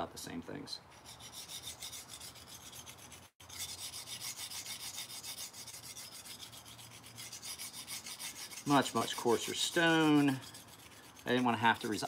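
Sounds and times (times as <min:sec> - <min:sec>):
knife scraping on sharpening stone: 0:00.9 - 0:12.0.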